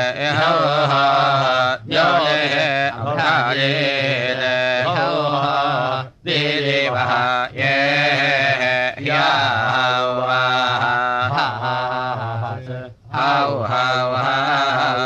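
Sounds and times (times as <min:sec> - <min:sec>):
chanting with sliding pitch: 0:00.0 - 0:15.0.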